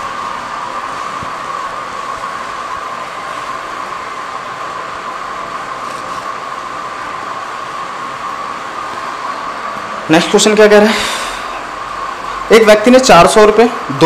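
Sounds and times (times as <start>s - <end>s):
steady hiss with drone: 0.0s - 14.0s.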